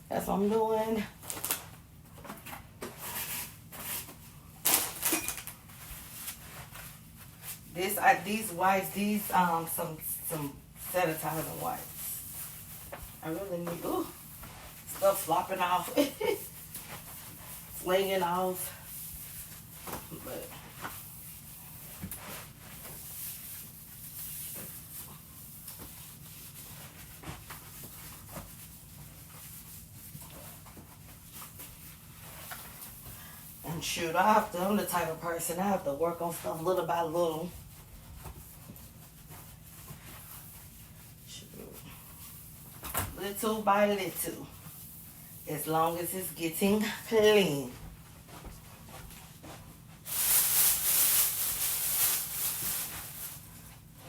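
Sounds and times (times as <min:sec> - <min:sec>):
rustling and wiping: 0:05.6 - 0:54.0.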